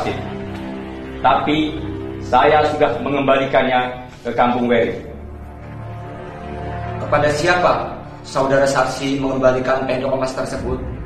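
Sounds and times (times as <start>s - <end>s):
film score with low held tones: 0.0s - 11.0s.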